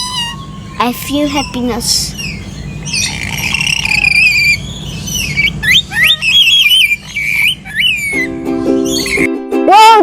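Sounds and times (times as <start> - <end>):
birds whistling and warbling: 0.0 - 9.4
low background hum: 0.0 - 10.0.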